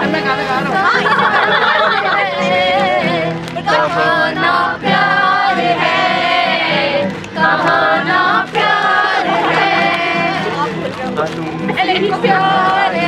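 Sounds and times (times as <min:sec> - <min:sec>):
several voices singing: 0:00.0 - 0:13.0.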